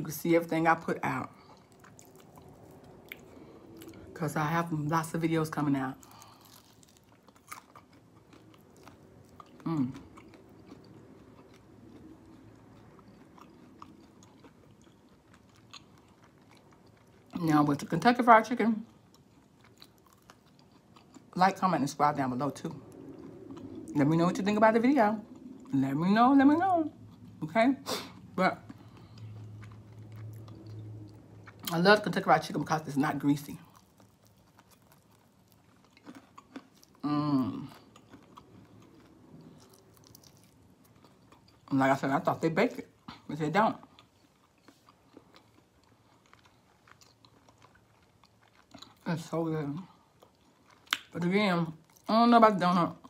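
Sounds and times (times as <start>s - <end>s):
faint chewing: 1.2s - 4.2s, 5.1s - 26.0s, 28.0s - 32.2s, 33.1s - 52.1s.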